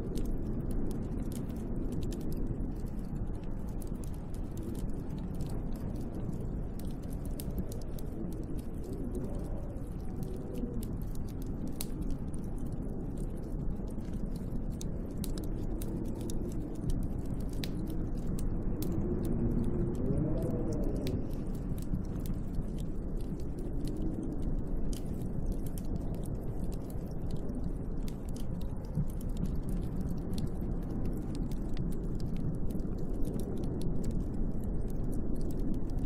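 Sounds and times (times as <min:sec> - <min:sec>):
faint ticks and crackles: 0:00.0 - 0:36.0
howling snowstorm wind: 0:00.0 - 0:36.0.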